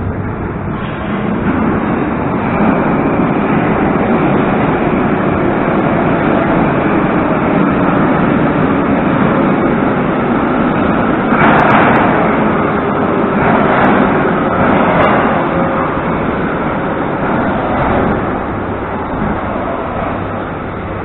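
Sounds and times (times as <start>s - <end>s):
metro train rumble: 0.0s - 21.0s
rush of noise: 0.0s - 21.0s.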